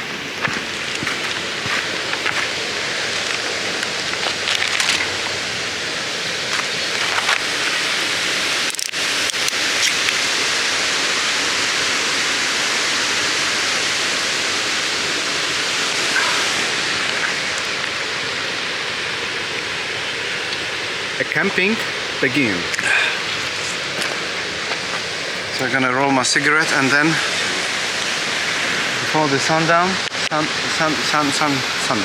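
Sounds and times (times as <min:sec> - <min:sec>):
running water rushing: 0:00.0 - 0:32.0.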